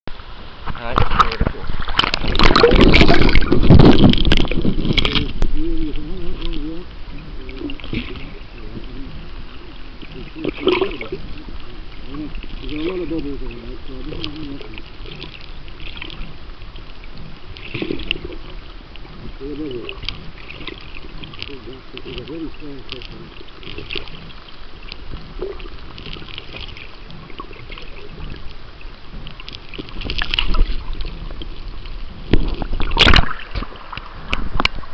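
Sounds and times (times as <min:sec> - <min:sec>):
underwater river gurgles: 0:00.1 - 0:34.9
water surge: 0:00.1 - 0:34.9.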